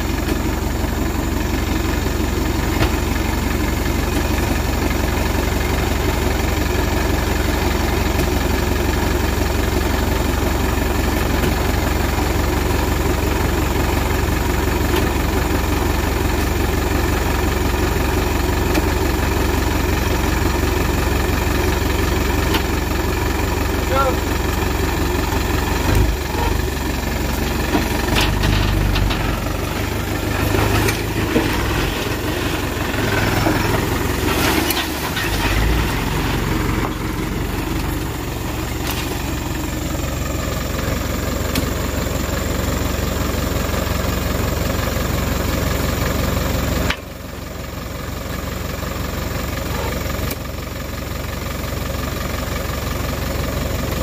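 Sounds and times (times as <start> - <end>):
dump truck engine idling: 0.0 - 54.0.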